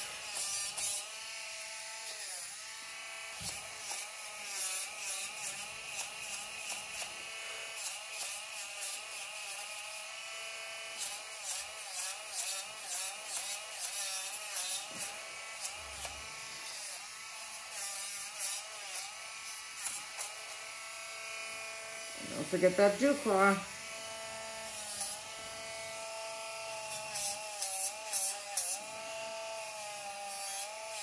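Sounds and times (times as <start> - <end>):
clipper blade cutting hair: 0.0 - 31.0
pet clipper motor humming: 0.0 - 31.0.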